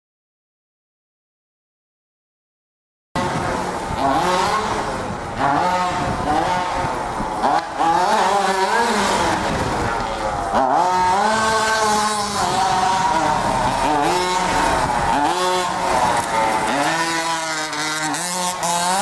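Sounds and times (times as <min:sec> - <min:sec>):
rc car engine revving: 0:03.2 - 0:19.0.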